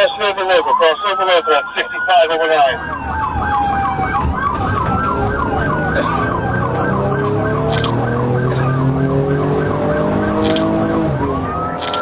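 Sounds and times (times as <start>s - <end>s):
police sirens yelping: 0.0s - 10.1s.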